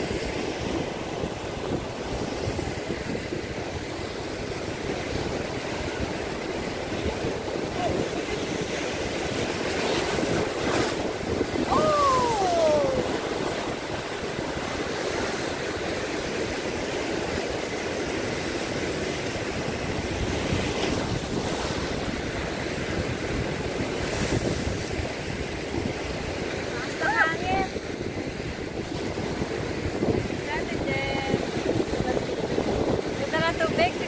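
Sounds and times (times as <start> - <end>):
surf breaking over rocks: 0.0 - 34.0
wind buffeting microphone: 0.0 - 34.0.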